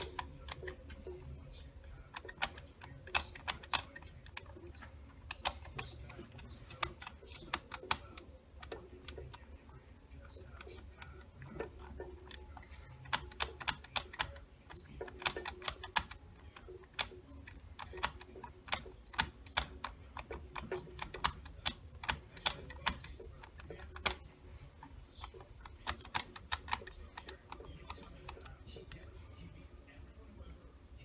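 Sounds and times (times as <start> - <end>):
switches clicking: 2.0 - 9.4, 10.5 - 24.3, 25.2 - 29.0.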